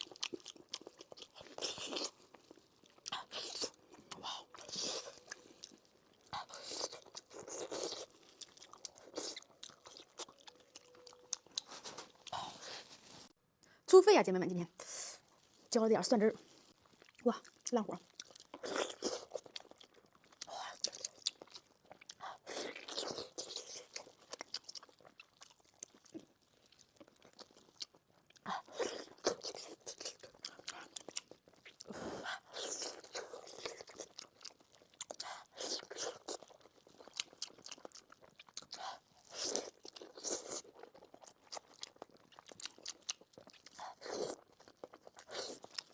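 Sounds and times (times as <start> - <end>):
person chewing: 0.0 - 13.3, 15.2 - 45.9.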